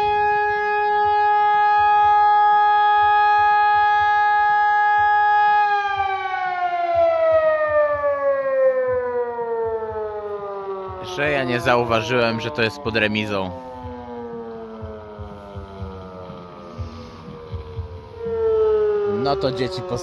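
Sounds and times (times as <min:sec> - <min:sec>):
siren winding down: 0:00.0 - 0:20.0.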